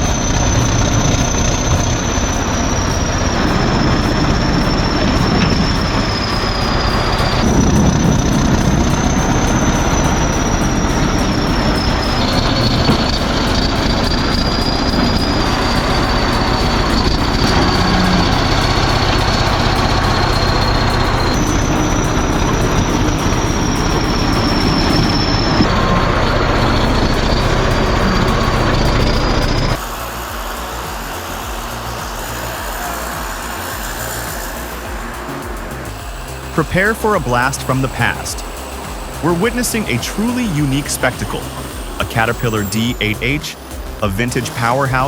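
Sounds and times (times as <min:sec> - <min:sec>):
bulldozer running: 0:00.0 - 0:45.0
high-pitched squeal: 0:00.0 - 0:45.0.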